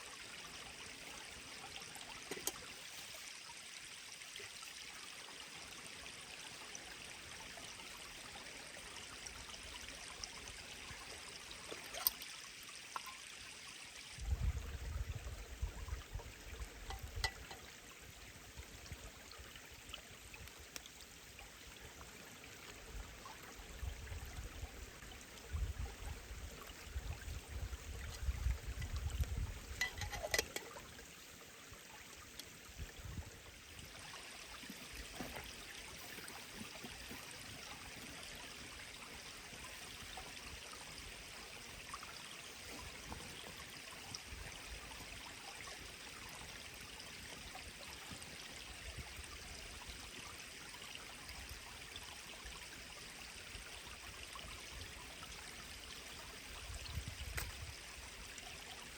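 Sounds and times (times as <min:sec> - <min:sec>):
forest stream flowing: 0:00.0 - 0:58.9.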